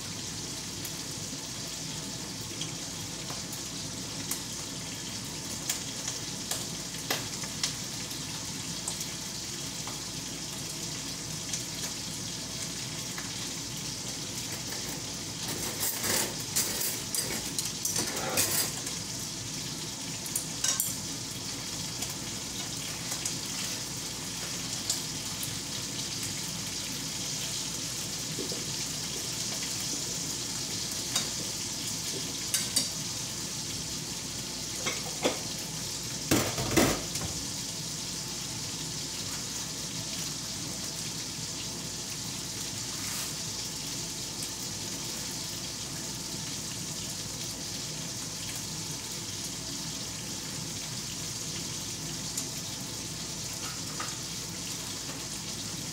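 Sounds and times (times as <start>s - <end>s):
food sizzling in a frying pan: 0.0s - 55.9s.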